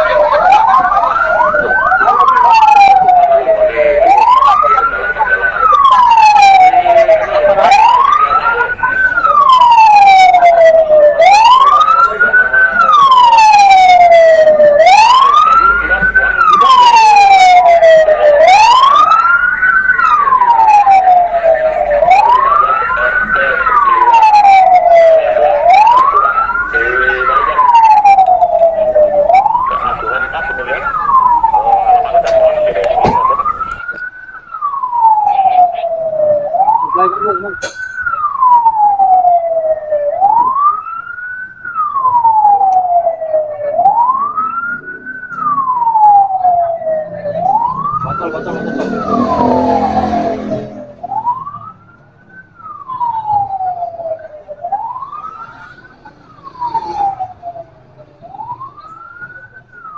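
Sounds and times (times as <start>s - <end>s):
fire truck siren wailing: 0.0s - 59.9s.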